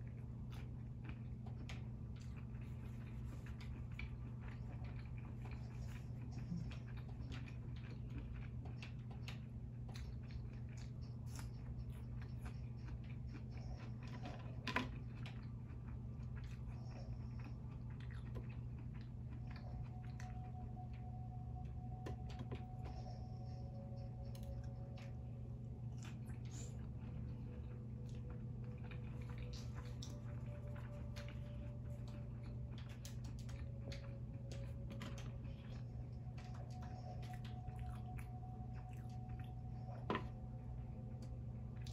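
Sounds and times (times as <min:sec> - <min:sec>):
chewing and biting food: 0:00.0 - 0:41.9.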